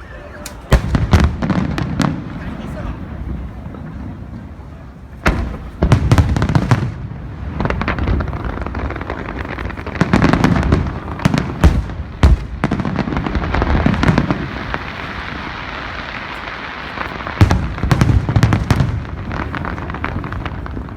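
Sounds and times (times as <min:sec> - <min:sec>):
fireworks bursting with sharp bangs: 0:00.0 - 0:20.9.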